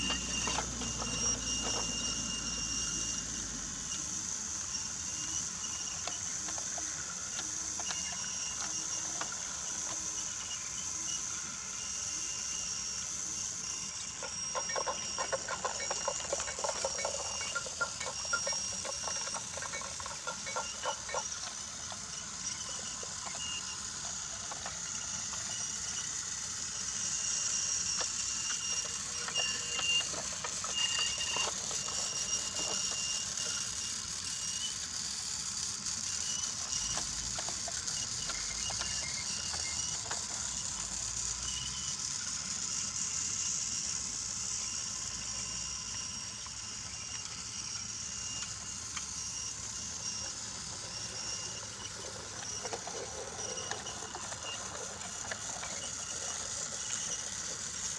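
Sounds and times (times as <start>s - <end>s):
toy train wheels clicking on track: 0.0s - 57.9s
toy train whine: 0.0s - 57.9s.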